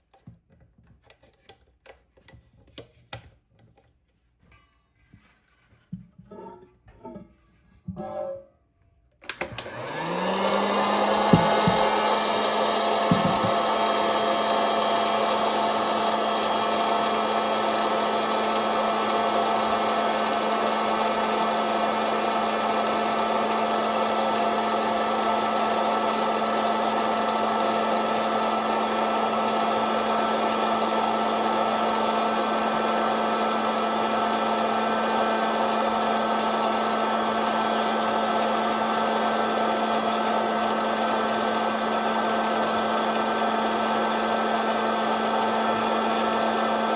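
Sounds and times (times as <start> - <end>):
popcorn popper fan humming: 9.2 - 46.9.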